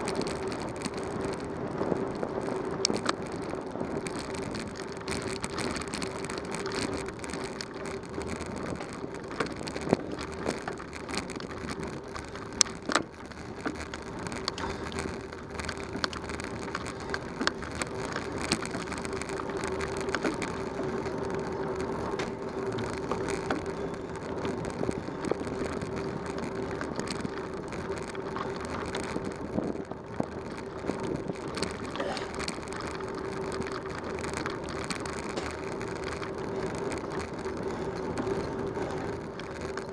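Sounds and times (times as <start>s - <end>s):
bicycle tyres crunching on gravel: 0.0s - 39.9s
bike rattling and clicking: 0.0s - 39.9s.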